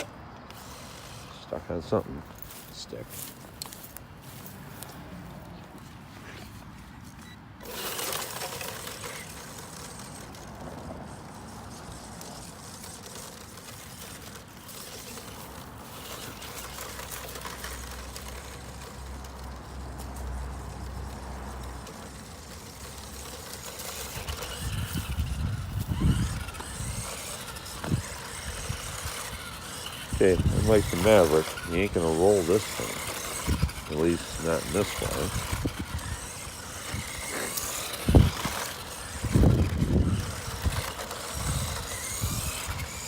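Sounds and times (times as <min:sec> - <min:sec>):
rc truck motor whirring: 0:00.0 - 0:43.0.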